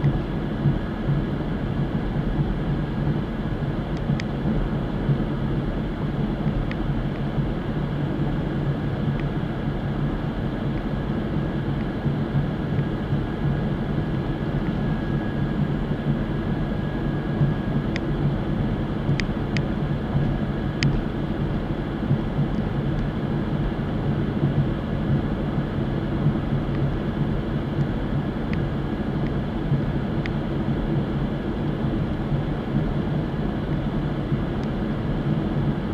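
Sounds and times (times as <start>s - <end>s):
car engine drone and road rumble: 0.0s - 35.9s.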